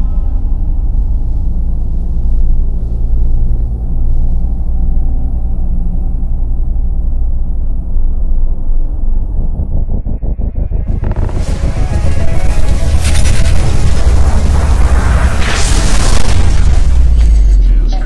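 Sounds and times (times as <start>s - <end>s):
deep rumbling drone: 0.0s - 18.0s
rapid fluttering pulse: 0.0s - 18.0s.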